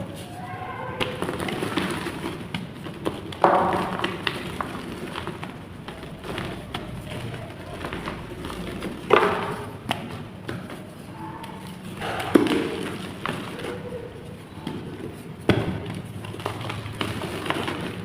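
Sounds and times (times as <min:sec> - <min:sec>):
clay blocks crumbling and cracking: 0:01.0 - 0:18.0.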